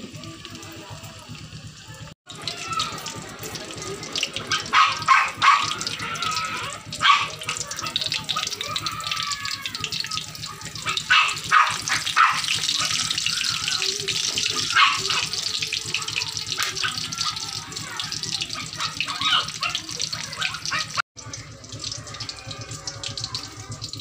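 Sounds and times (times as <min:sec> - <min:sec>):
meat sizzling in hot oil: 0:00.0 - 0:24.0
oil popping: 0:00.0 - 0:24.0.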